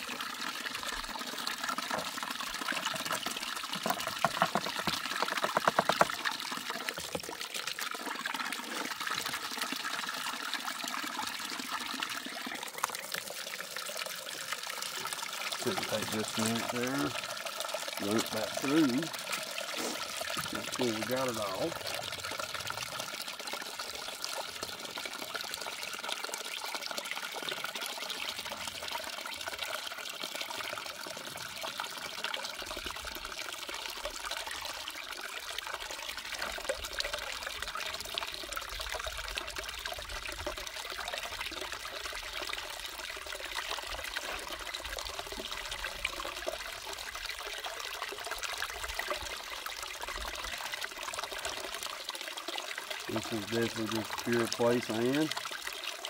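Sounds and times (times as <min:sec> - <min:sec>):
water trickling and pouring: 0:00.0 - 0:56.0.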